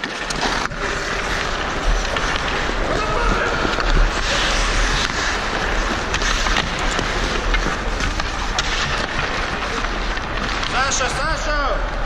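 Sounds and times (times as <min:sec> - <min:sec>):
skates scraping ice: 0:00.0 - 0:12.0
sticks and puck clacking: 0:00.0 - 0:12.0.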